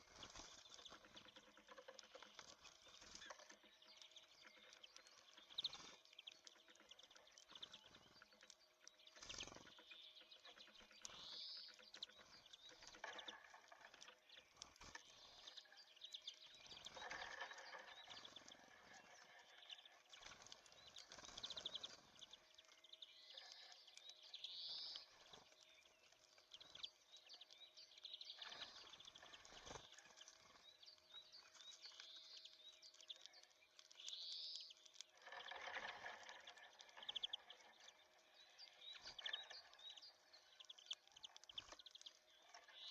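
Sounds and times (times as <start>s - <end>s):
songbirds chirping: 0.0s - 42.9s
faint ticks: 0.1s - 42.9s.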